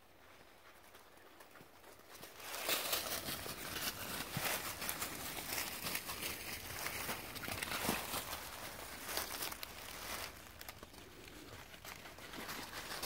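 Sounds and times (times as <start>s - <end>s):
footsteps crunching dry leaves: 2.3s - 13.0s.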